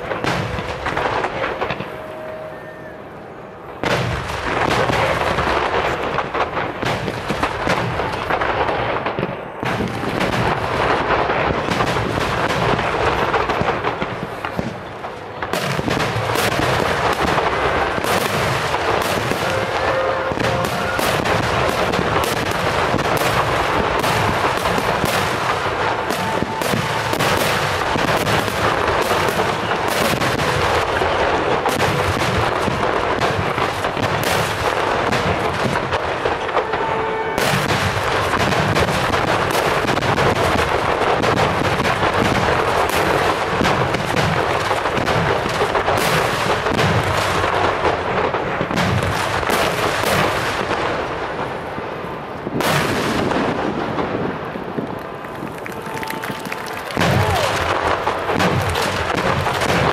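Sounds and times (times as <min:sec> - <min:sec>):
sharp firework bangs: 0:00.0 - 0:02.7, 0:03.8 - 0:59.9
fireworks bursting and crackling: 0:00.0 - 0:59.9.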